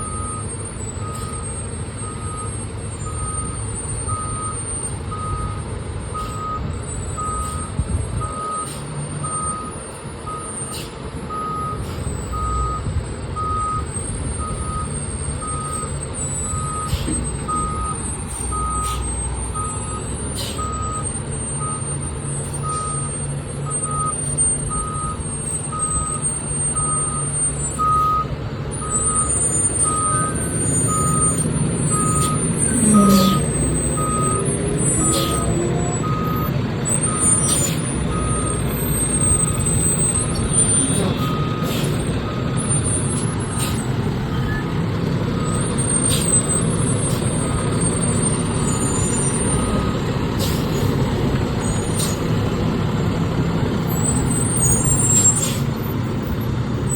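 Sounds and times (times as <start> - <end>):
reversing alarm beeping: 0.0 - 50.7
diesel engine rumble: 0.0 - 56.9.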